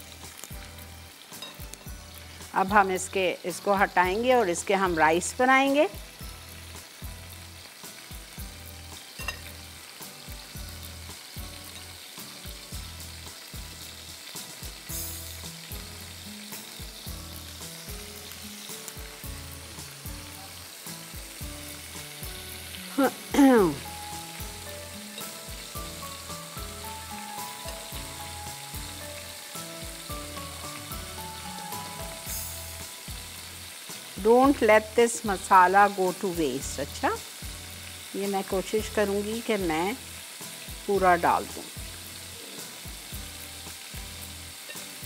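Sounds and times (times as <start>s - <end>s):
chicken sizzling in oil: 0.0s - 45.0s.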